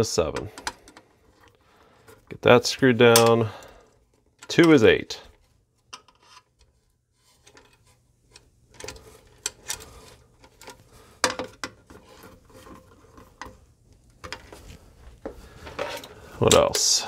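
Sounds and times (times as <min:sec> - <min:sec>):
wires clicking and rubbing: 0:00.0 - 0:17.0.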